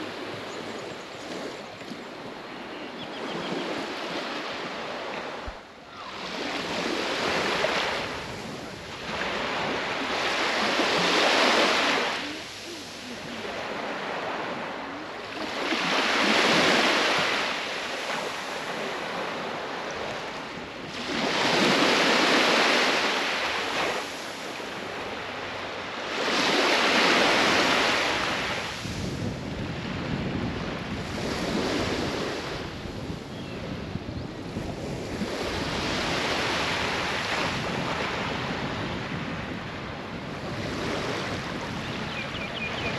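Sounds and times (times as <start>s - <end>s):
small waves washing up sand: 0.0s - 42.9s.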